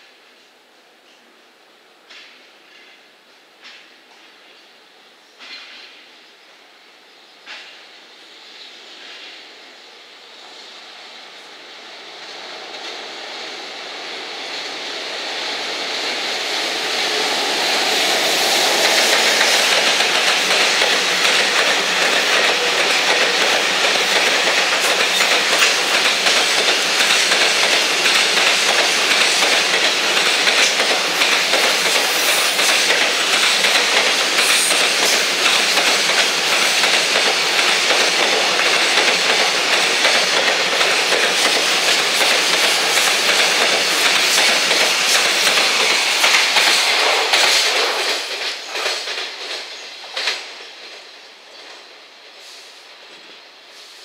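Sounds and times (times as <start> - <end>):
freight train passing: 1.9 - 54.0.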